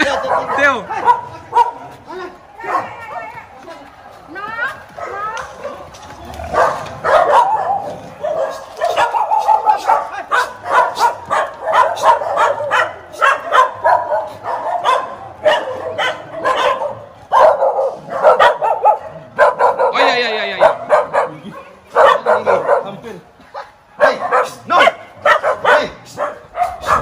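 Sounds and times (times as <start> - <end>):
dogs barking and yipping: 0.0 - 3.5, 4.4 - 27.0.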